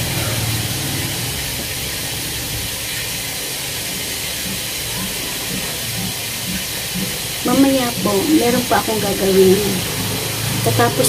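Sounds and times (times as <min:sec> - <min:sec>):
meat frying in hot oil: 0:00.0 - 0:11.0.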